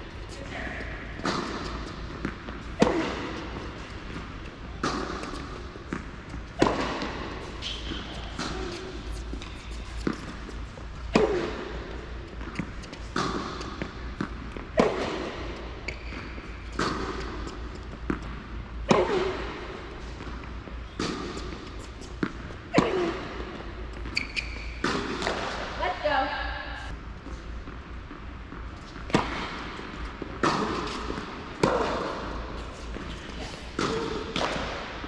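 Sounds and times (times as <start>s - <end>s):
racket hitting tennis ball: 0.2s - 26.0s, 28.5s - 35.0s
tennis ball bouncing: 0.4s - 26.1s, 27.6s - 35.0s.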